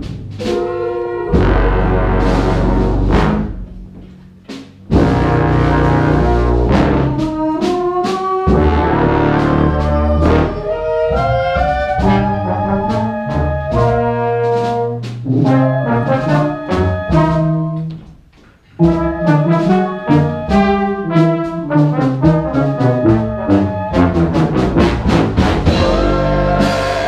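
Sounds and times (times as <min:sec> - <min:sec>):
brass and wind band playing: 0:00.0 - 0:03.8, 0:04.9 - 0:17.9, 0:18.8 - 0:27.0.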